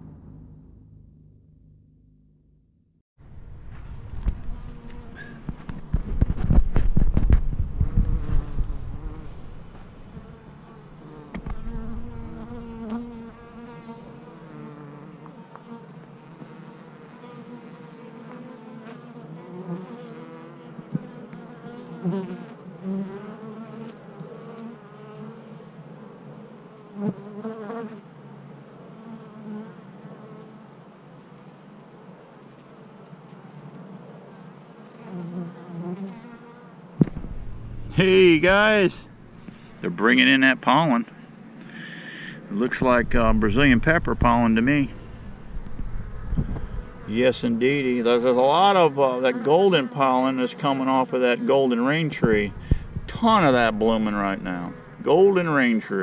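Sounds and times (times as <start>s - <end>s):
bees buzzing: 4.0s - 30.7s, 32.9s - 55.9s.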